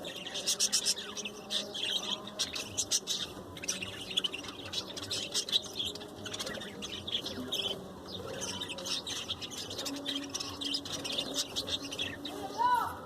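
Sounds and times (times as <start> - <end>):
budgerigars chattering and chirping: 0.0 - 12.3.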